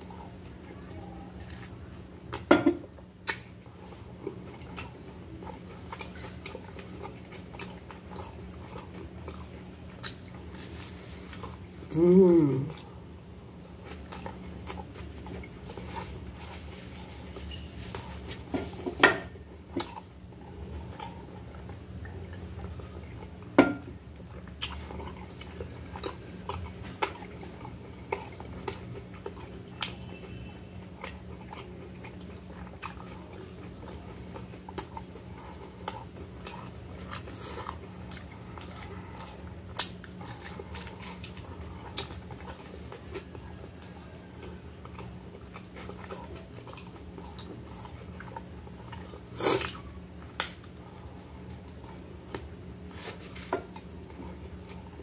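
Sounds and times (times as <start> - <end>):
chewing and crunchy bites: 0.0 - 55.0.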